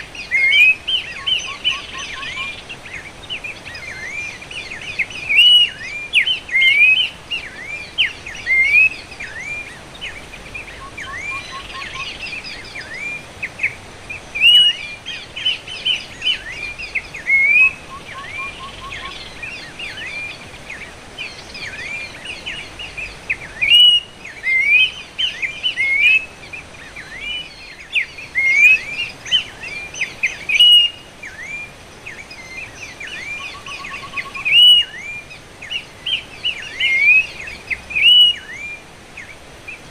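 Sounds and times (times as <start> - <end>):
bird whistled calls: 0.0 - 3.0, 3.7 - 20.8, 21.6 - 39.4.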